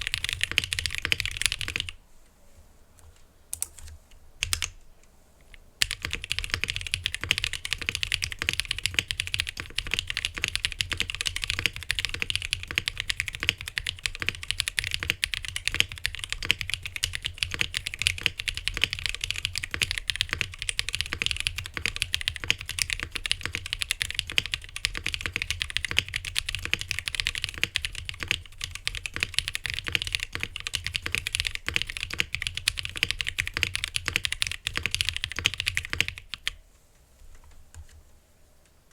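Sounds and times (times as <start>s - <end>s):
fast mechanical keyboard typing: 0.0s - 2.0s, 4.4s - 4.7s, 5.8s - 36.6s.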